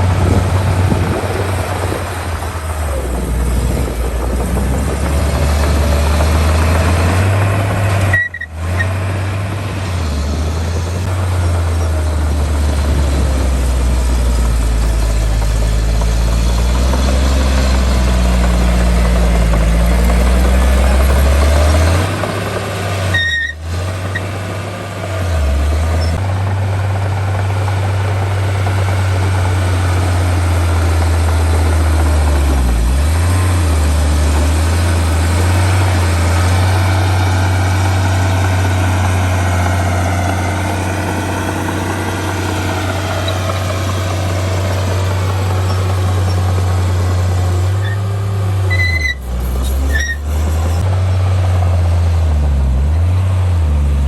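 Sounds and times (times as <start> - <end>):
heavy diesel engines droning: 0.0 - 54.0.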